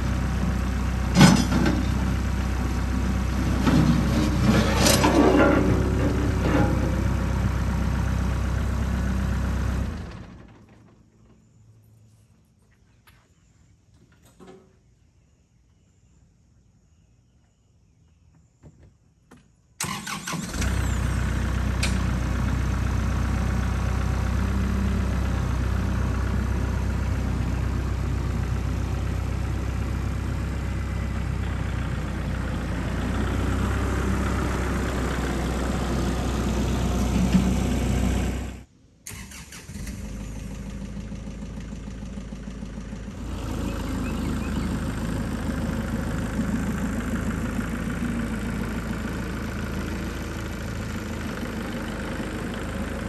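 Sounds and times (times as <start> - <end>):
tractor diesel engine running: 0.0 - 11.3, 19.8 - 53.0.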